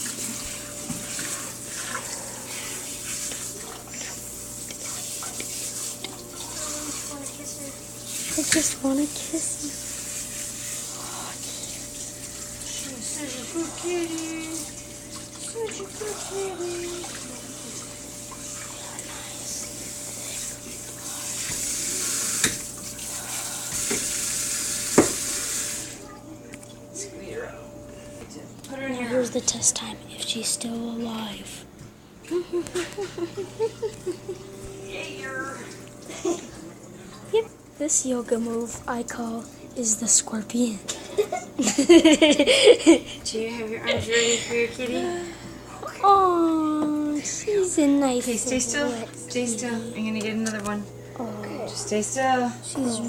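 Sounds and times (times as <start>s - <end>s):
water running from a tap: 0.0s - 26.1s, 33.2s - 53.0s.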